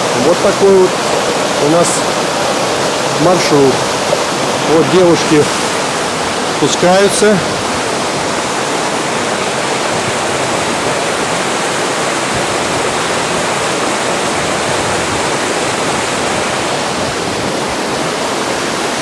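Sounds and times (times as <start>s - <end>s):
waterfall and stream rushing: 0.0s - 19.0s.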